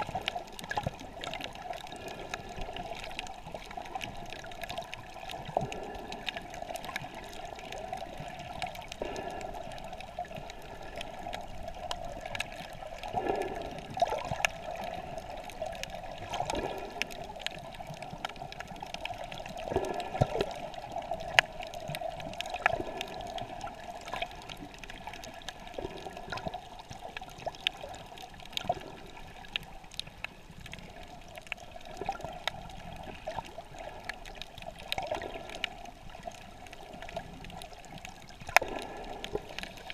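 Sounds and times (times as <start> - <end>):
muffled wash of moving water: 0.0 - 39.9
sharp clicks and crackles: 0.0 - 39.9.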